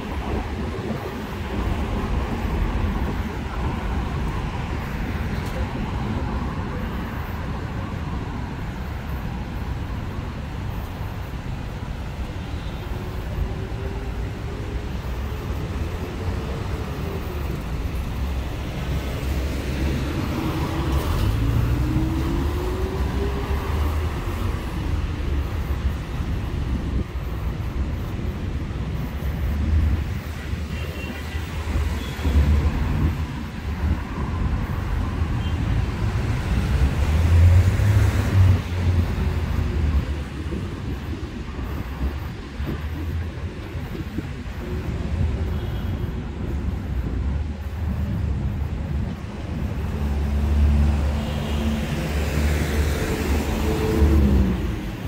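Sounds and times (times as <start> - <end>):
cars passing on road: 0.0 - 55.0.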